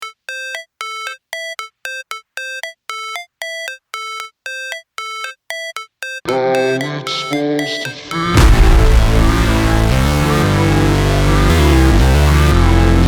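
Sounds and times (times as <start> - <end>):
simple synthesizer melody: 0.0 - 13.0.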